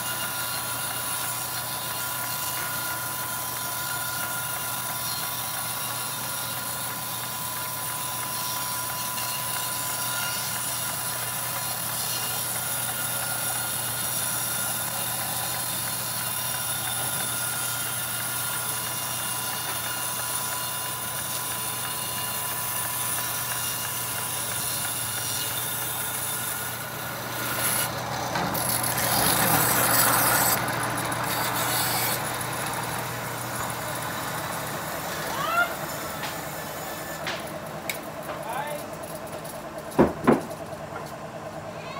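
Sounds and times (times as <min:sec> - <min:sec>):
band sawmill cutting log: 0:00.0 - 0:41.6.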